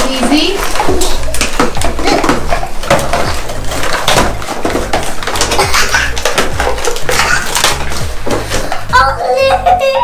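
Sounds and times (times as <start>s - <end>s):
plastic packaging crinkling: 0.0s - 8.9s
low background music: 0.0s - 10.0s.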